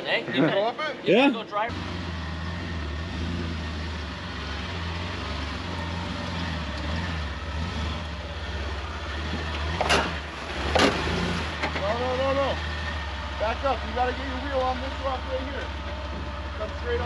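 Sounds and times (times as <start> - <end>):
off-road engine running low: 1.7 - 17.0.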